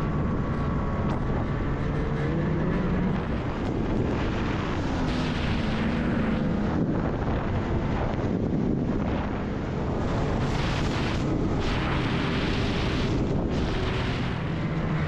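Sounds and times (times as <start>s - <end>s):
wind and snow rushing: 0.0s - 15.0s.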